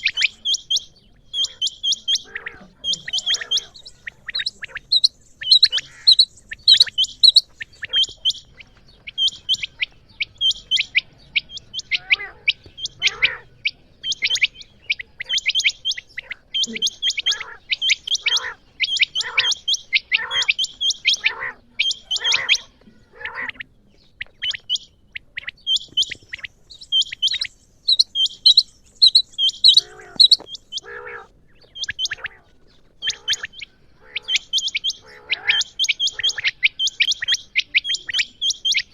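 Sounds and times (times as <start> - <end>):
quail coarse low calls: 0.0 - 38.9
quail high chirps: 0.0 - 38.9.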